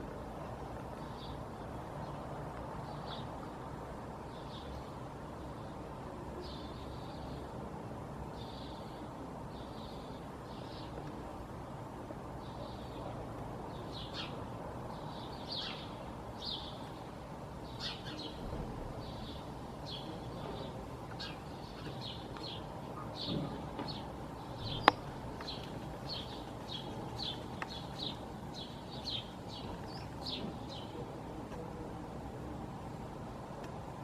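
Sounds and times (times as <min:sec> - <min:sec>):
small birds chirping: 0:00.3 - 0:03.6, 0:08.3 - 0:34.0.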